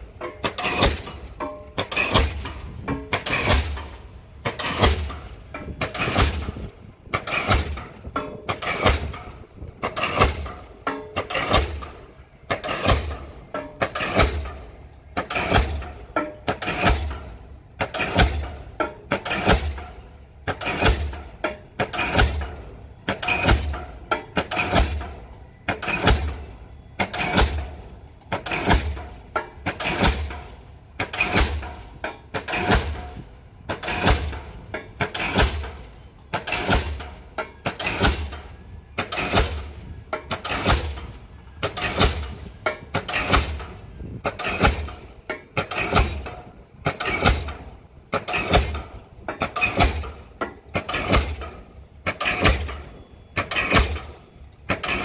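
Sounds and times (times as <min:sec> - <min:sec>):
pile hammer blows: 0:00.0 - 0:55.0.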